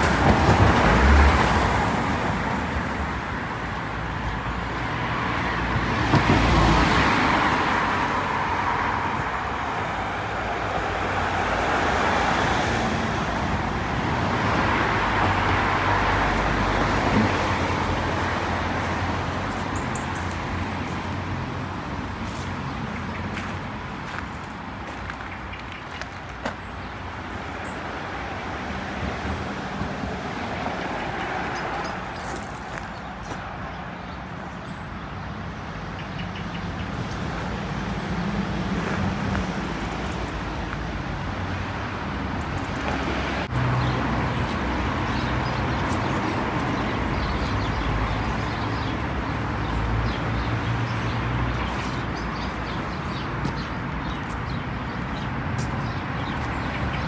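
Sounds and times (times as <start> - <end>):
road traffic passing: 0.0 - 57.0.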